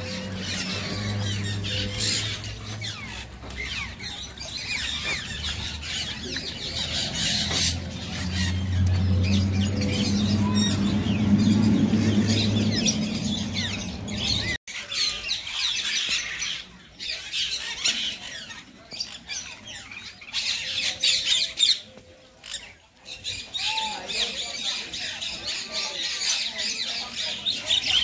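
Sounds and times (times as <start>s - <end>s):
birds chirping and squawking: 0.0s - 28.0s.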